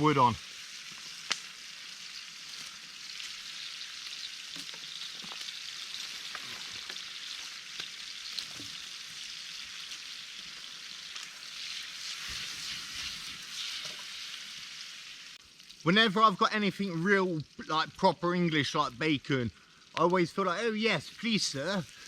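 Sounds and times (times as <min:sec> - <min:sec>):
bacon sizzling in a pan: 0:00.0 - 0:22.0.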